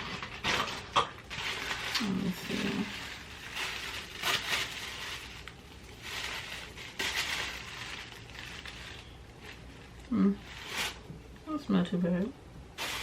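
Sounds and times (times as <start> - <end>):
packaging rustling and crinkling: 0.0 - 11.2, 12.8 - 13.0.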